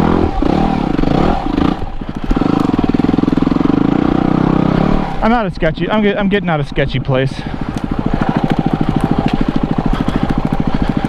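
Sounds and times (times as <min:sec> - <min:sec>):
motorcycle engine revving unevenly: 0:00.0 - 0:11.0.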